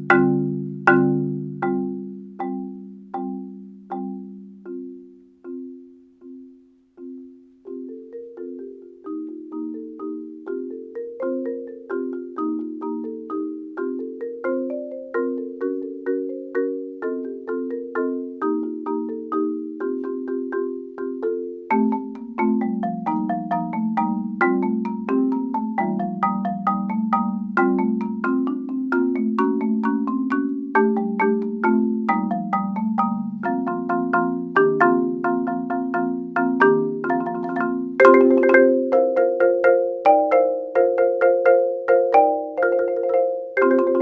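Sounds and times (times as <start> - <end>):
solo marimba: 0.0 - 44.0.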